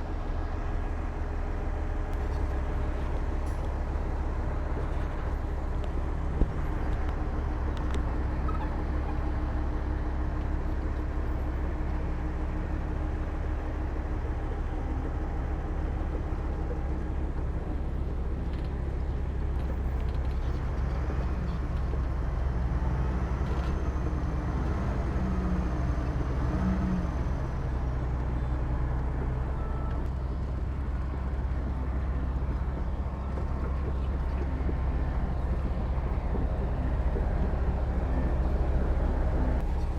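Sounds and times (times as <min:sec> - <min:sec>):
heavy diesel machinery rumbling: 0:00.0 - 0:39.9.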